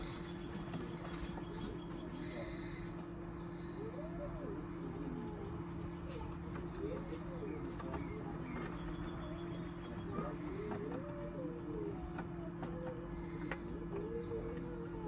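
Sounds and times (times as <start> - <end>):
quail chicks chirping: 0.0 - 15.0
steady low hum: 0.0 - 15.0.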